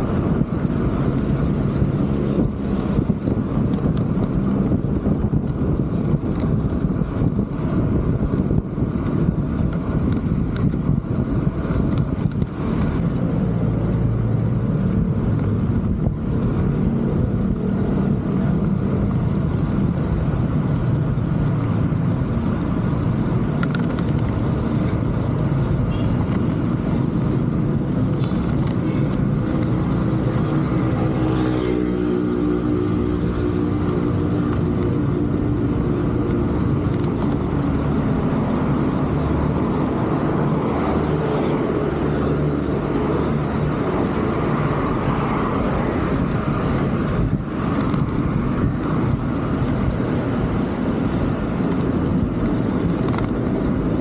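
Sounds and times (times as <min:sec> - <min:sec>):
passing vehicle engine hum: 0:00.0 - 0:54.0
road and wind rumble: 0:00.0 - 0:54.0.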